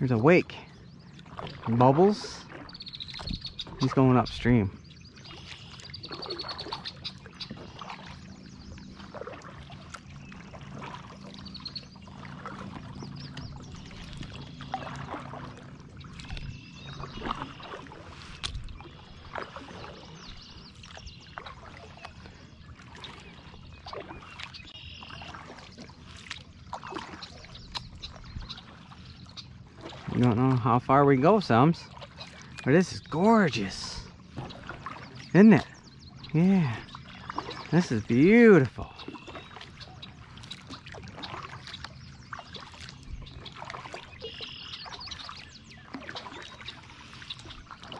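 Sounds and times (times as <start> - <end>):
birds chirping faintly: 0.0 - 47.9
paddle splashing in water: 0.1 - 47.9.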